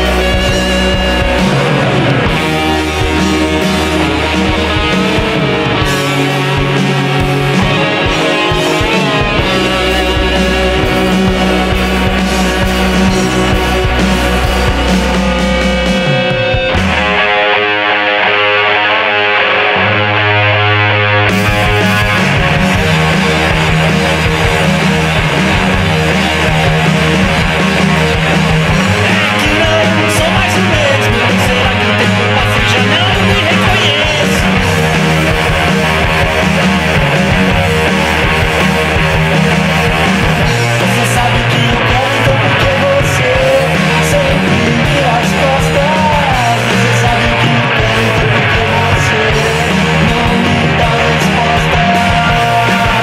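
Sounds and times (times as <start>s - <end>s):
rock band music: 0.0s - 53.0s.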